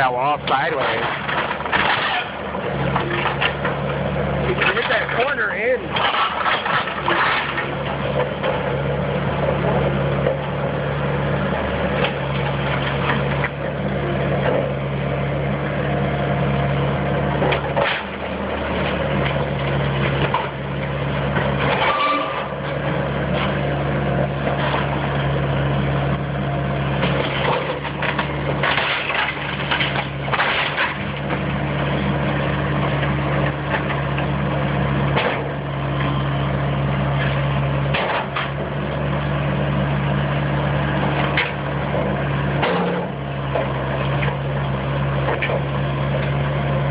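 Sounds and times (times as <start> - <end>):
wood cracking and splintering: 0.0 - 16.1, 16.7 - 46.9
demolition machine engine running: 0.0 - 46.9.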